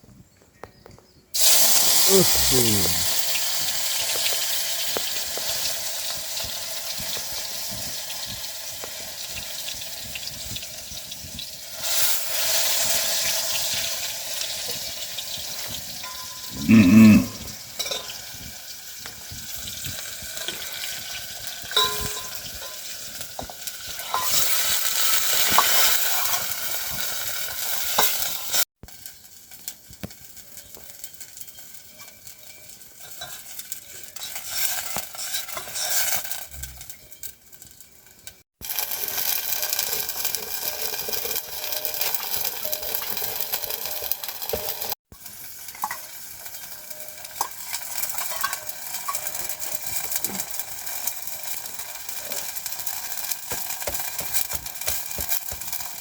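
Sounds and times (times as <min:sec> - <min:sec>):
food sizzling in a pan: 0:01.4 - 0:56.0.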